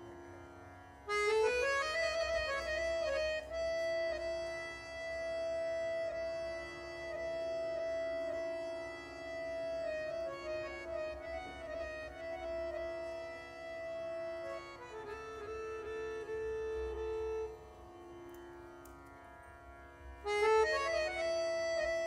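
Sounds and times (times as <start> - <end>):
harmonium playing slow melody: 0.0 - 22.0.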